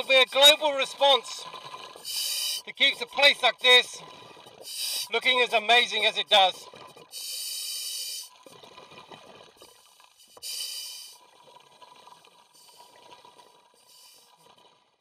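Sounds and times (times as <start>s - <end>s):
underwater regulator bubbles: 0.0s - 7.3s, 8.2s - 15.0s.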